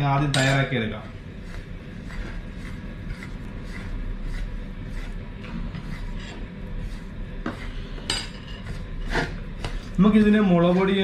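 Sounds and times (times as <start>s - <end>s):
steady low hum: 0.0s - 11.0s
fingers scraping on ceramic plate: 0.4s - 11.0s.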